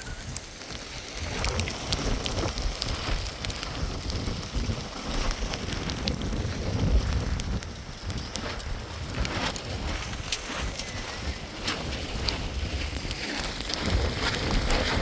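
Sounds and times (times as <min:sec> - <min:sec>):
rain drops ticking: 0:00.0 - 0:15.0.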